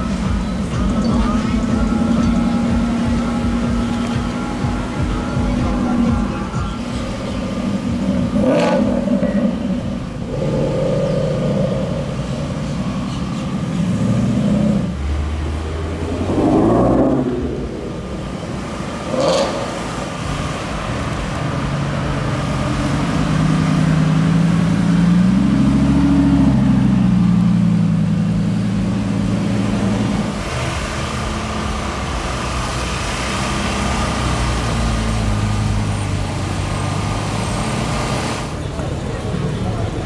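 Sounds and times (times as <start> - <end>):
car engine and exhaust: 0.0 - 40.0.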